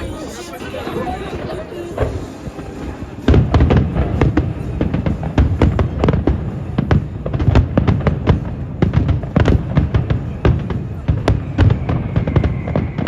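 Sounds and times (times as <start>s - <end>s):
fireworks exploding: 0.0s - 13.0s
music: 0.0s - 13.0s.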